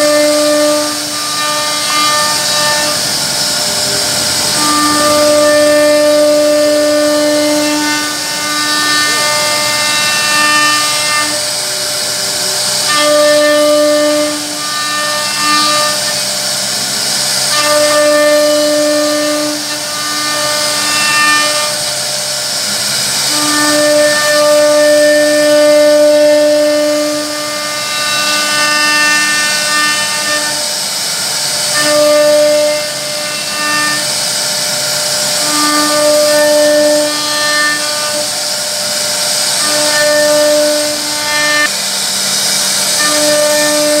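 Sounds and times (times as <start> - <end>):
bit cutting wood hiss: 0.0 - 44.0
router spindle whine: 0.0 - 44.0.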